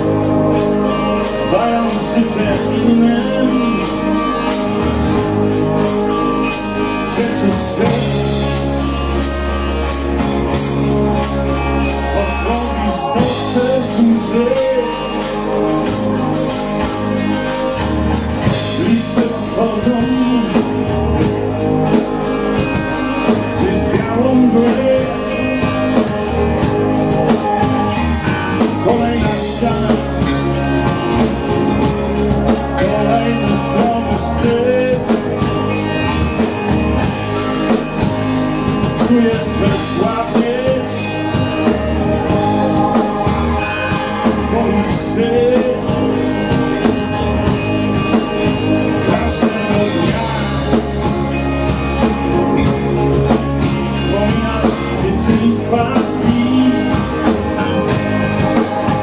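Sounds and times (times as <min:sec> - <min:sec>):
drum kit keeping a steady beat: 0:00.0 - 0:59.0
electric bass: 0:00.0 - 0:59.0
electric guitar: 0:00.0 - 0:59.0.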